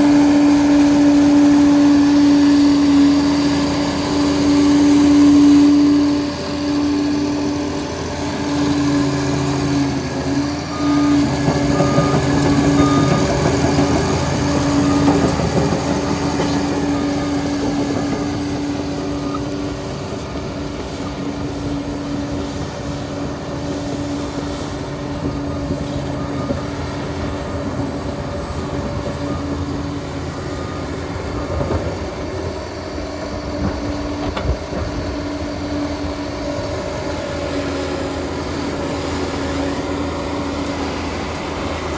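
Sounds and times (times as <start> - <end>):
dozer diesel engine droning: 0.0 - 41.9.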